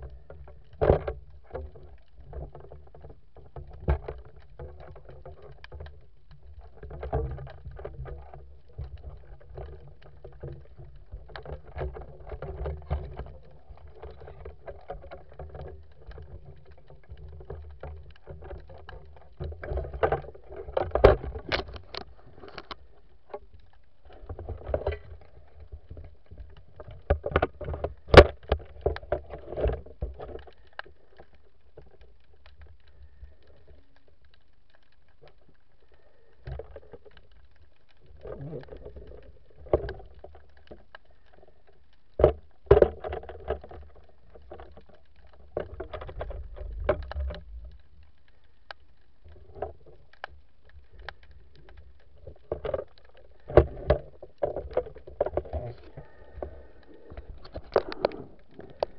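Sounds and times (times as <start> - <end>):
muffled underwater movement: 0.0 - 58.9.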